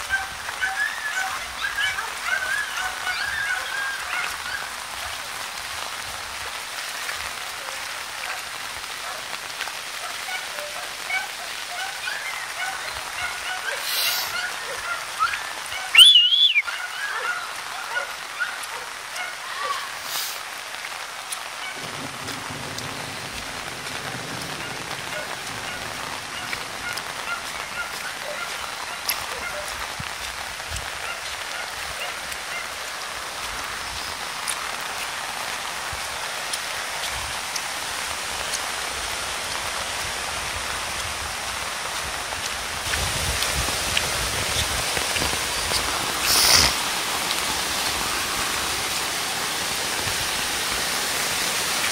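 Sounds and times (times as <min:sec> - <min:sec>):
heavy rain: 0:00.0 - 0:51.9.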